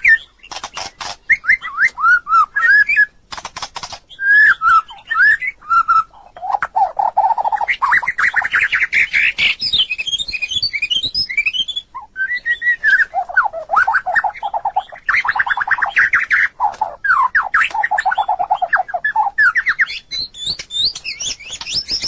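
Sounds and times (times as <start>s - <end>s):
bird singing trills and whistles: 0.0s - 3.2s, 3.8s - 22.0s.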